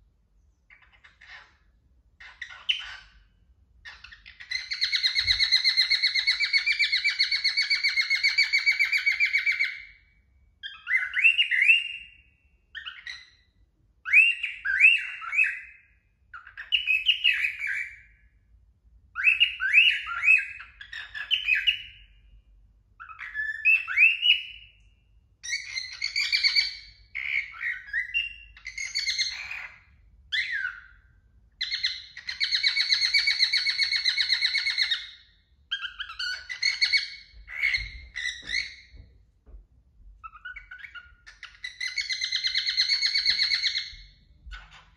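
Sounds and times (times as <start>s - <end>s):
cockatiel whistling chirps: 0.7s - 1.6s, 2.2s - 10.0s, 10.6s - 18.2s, 19.1s - 22.3s, 23.0s - 31.0s, 31.6s - 39.0s, 40.2s - 44.9s.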